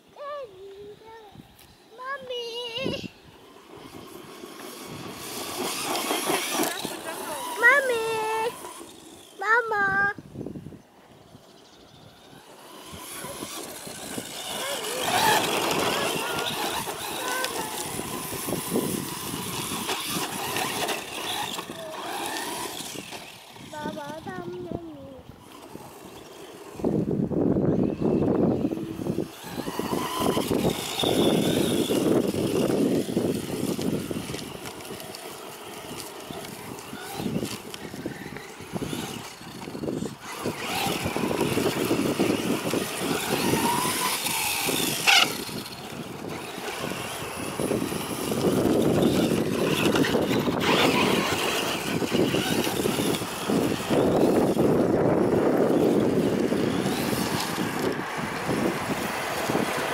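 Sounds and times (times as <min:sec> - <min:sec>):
rc car motor whining: 0:00.0 - 0:59.9.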